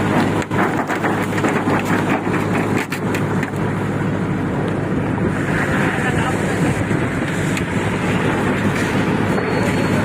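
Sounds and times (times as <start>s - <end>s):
concrete mixer engine running: 0.0s - 10.0s.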